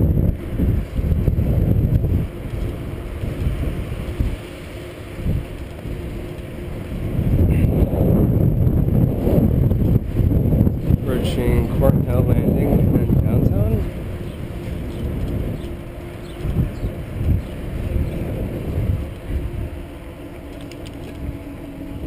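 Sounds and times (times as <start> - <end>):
bicycle tyres rolling on pavement: 0.0 - 22.0
wind buffeting microphone: 0.0 - 22.0.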